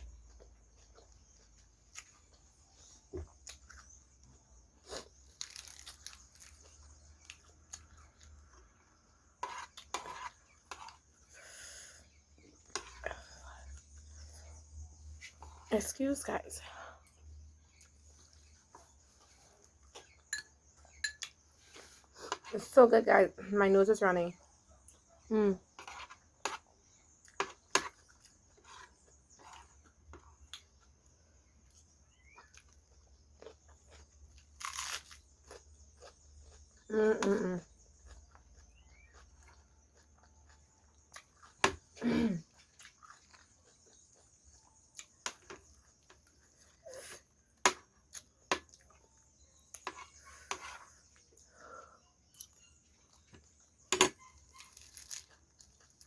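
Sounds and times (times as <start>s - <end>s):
person chewing food: 0.0s - 15.7s, 17.1s - 22.5s, 24.8s - 56.0s.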